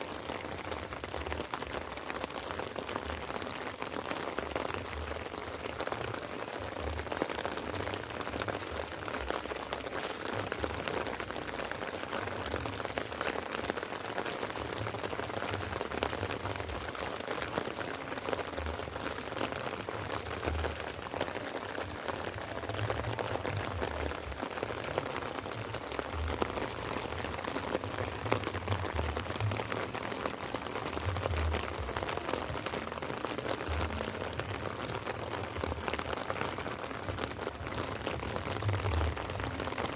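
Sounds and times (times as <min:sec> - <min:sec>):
light rain patter: 0:00.0 - 0:39.9.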